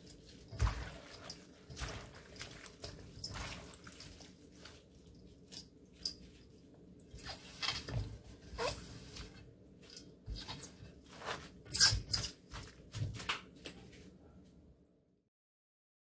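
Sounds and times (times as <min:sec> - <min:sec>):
hands mixing wet food in bowl: 0:00.0 - 0:14.0.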